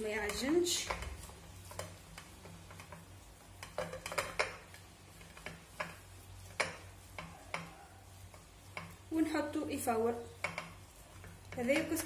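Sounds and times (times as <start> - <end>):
grains clicking in steel pot: 0.0 - 12.0.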